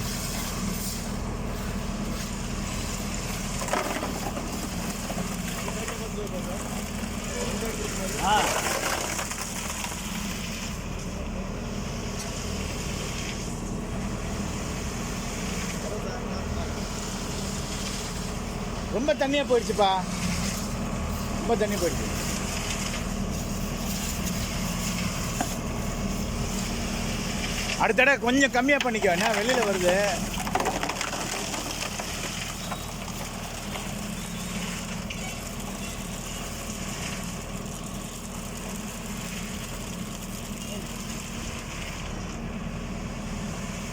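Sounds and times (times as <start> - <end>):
concrete mixer drum turning: 0.0 - 10.9, 15.2 - 41.8.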